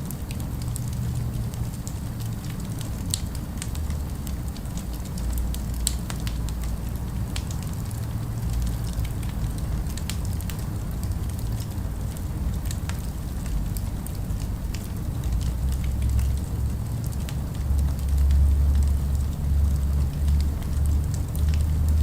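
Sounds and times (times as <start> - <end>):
city ambience rumble: 0.0 - 22.0
fire crackling and popping: 0.0 - 22.0.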